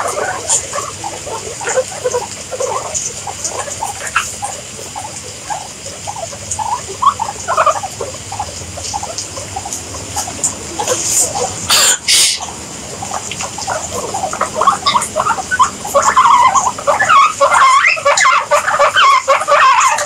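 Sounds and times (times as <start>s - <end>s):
guinea pigs squeaking: 0.0s - 20.0s.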